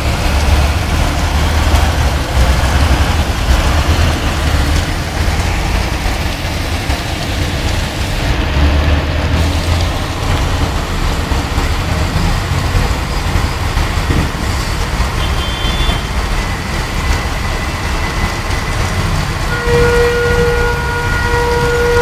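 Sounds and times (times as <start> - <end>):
heavy low rumble: 0.0 - 19.6
hailstorm roar: 0.0 - 22.0.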